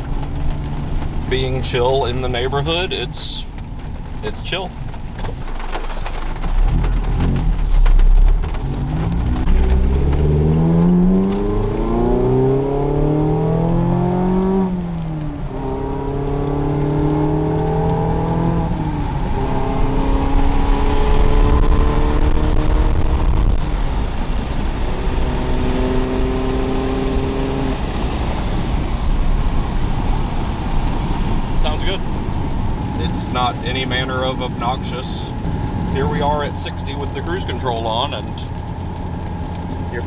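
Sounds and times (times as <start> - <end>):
car engine revving: 4.8 - 40.0.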